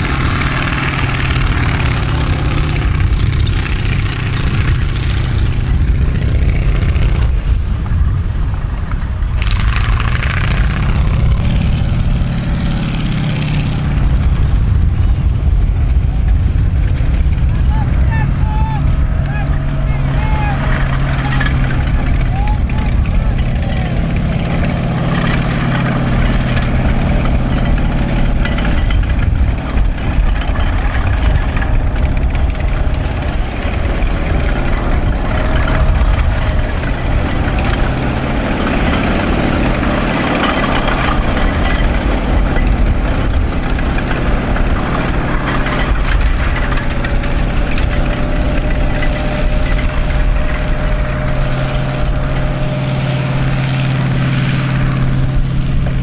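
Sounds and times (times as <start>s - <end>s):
steel tracks clanking: 0.0s - 56.0s
tank engine running: 0.0s - 56.0s.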